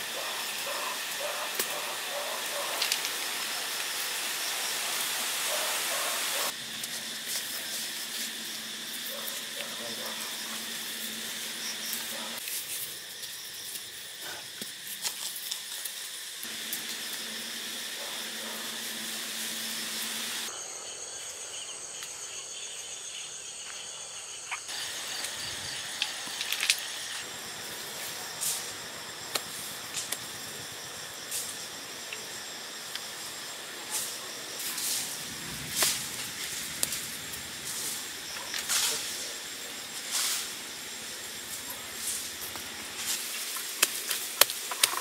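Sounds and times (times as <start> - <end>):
crickets chirring: 0.0 - 45.0.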